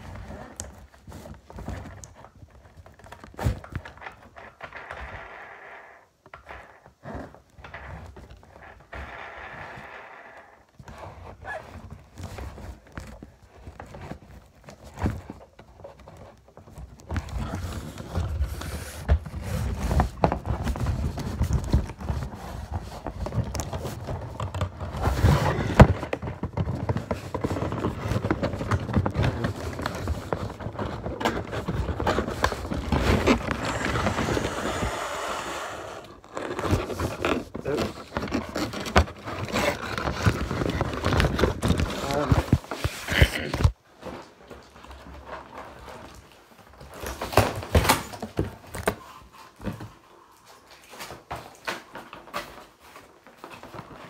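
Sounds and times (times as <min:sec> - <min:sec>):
packaging being handled and opened: 0:00.0 - 0:54.0.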